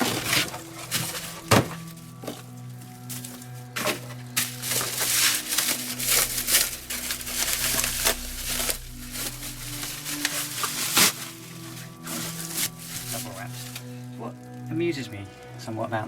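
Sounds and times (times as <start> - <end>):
packaging crinkling and rustling: 0.0 - 14.7.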